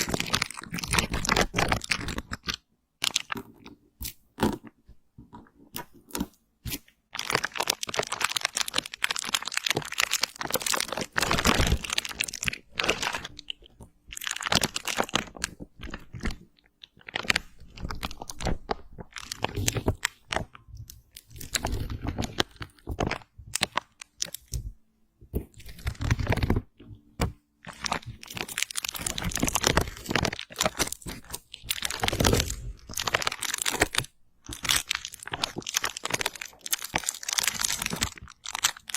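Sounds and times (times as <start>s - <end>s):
crisp crunching and crackling: 0.0s - 38.9s.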